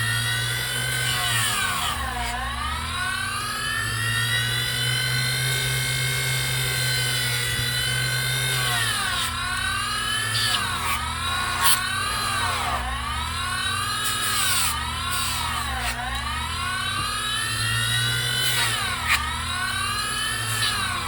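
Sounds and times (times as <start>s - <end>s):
bench grinder motor whining: 0.0s - 21.0s.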